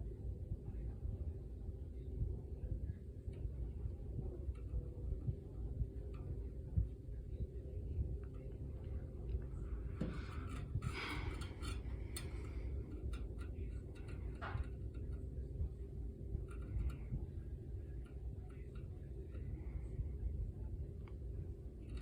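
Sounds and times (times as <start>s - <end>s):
air blowing from vent: 0.0s - 22.0s.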